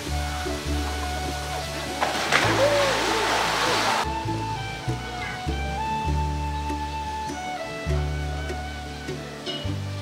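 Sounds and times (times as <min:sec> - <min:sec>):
low bass notes: 0:00.0 - 0:10.0.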